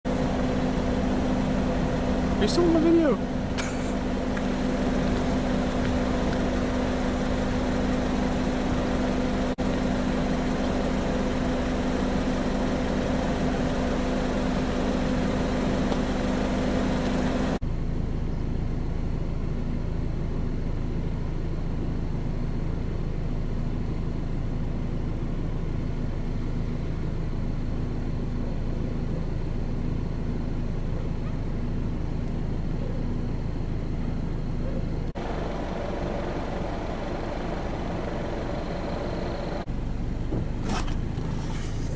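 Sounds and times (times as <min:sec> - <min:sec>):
engine humming: 0:00.0 - 0:41.9.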